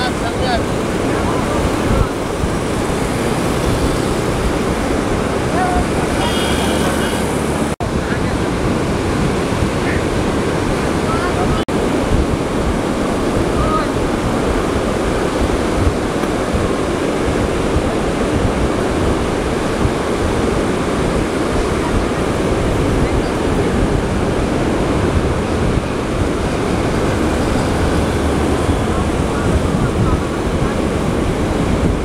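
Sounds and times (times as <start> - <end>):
sea surf on beach: 0.0 - 32.0
wind rumbling on microphone: 0.0 - 32.0.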